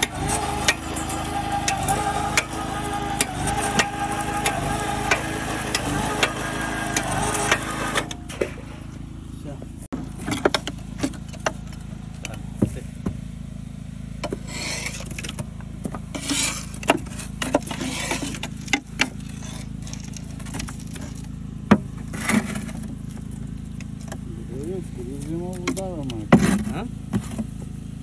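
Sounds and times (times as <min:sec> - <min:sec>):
clay scraping off auger: 0:00.0 - 0:09.0, 0:14.2 - 0:27.8
generator humming: 0:00.0 - 0:28.0.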